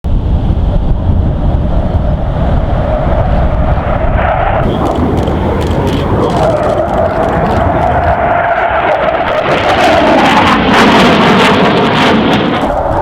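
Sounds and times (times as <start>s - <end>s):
fighter jet engine rumble: 0.0s - 13.0s.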